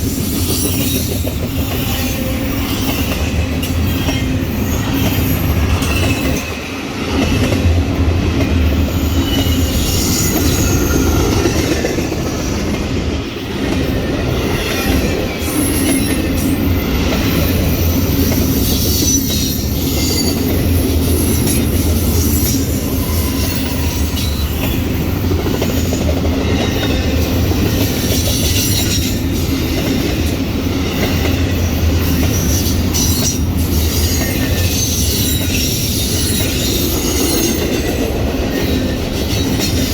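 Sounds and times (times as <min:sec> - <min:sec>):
steel wheel squeal: 0:00.0 - 0:06.6, 0:08.9 - 0:12.6, 0:14.5 - 0:29.8, 0:30.9 - 0:39.9
train wheel and rail rumble: 0:00.0 - 0:39.9.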